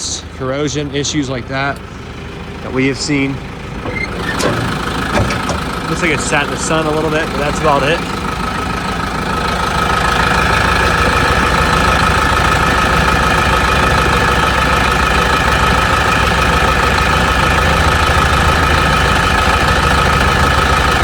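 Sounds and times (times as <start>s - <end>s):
diesel engine rumbling with whine: 0.0s - 21.0s.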